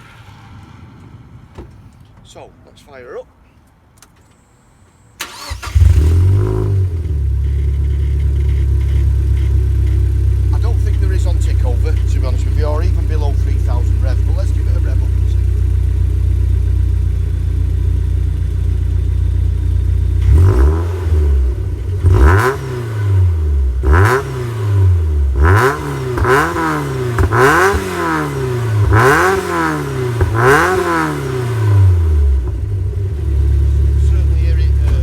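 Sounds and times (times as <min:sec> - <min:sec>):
car engine idling and revving: 0:05.2 - 0:35.0.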